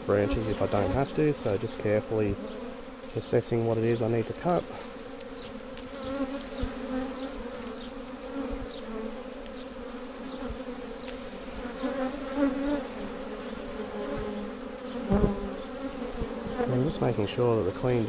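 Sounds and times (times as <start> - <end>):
honey bee swarm buzzing: 0.0 - 18.0.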